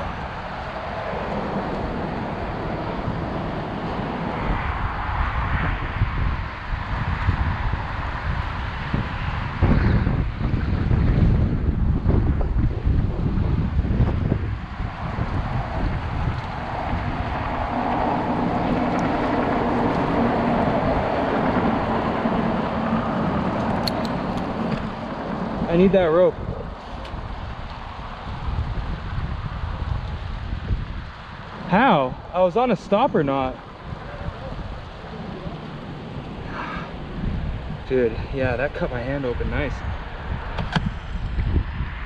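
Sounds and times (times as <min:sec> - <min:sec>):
engine running steadily: 0:00.0 - 0:41.6
dense rushing noise: 0:00.0 - 0:42.0
wind buffeting microphone: 0:00.0 - 0:42.0
wind gusting: 0:00.0 - 0:42.0.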